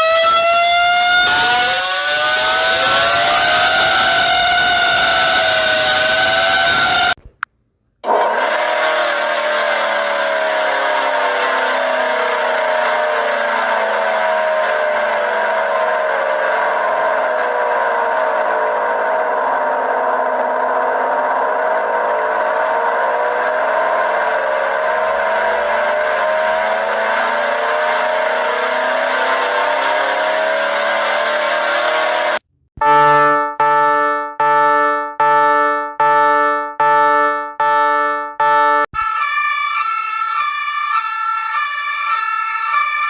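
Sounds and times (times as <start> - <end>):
emergency alert siren: 0.0 - 7.2, 8.1 - 43.0.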